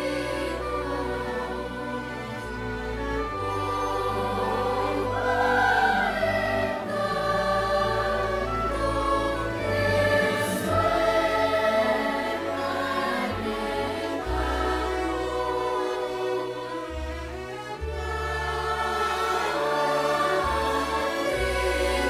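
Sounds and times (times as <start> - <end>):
choir singing held notes: 0.0 - 22.0.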